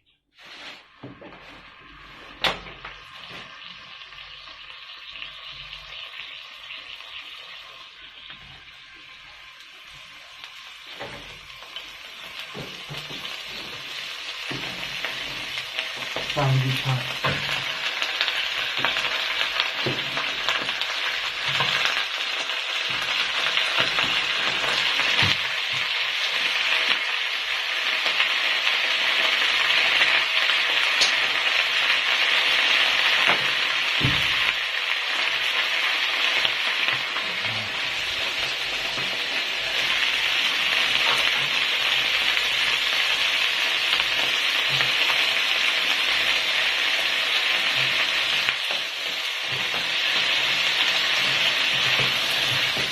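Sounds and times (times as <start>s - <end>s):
greens sizzling in hot oil: 0.3s - 52.9s.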